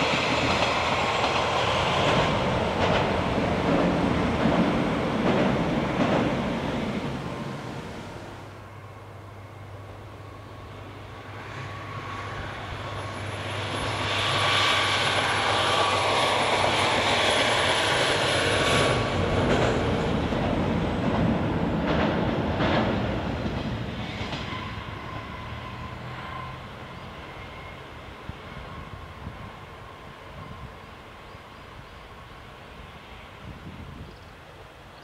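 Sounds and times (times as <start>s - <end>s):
diesel railcar passing: 0.0s - 35.0s.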